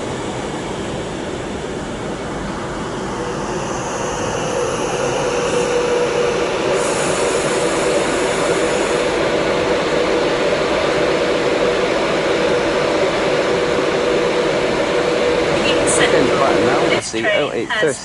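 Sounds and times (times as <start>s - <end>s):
steady hum: 0.0s - 18.0s
train wheel and rail noise: 0.0s - 18.0s.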